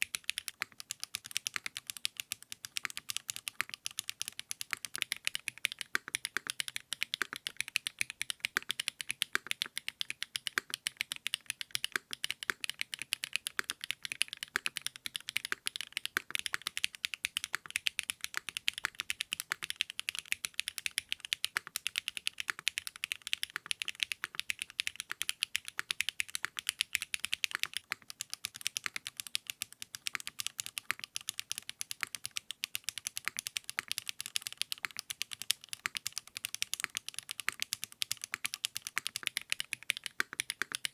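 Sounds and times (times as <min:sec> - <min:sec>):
fast mechanical keyboard typing: 0:00.0 - 0:40.9.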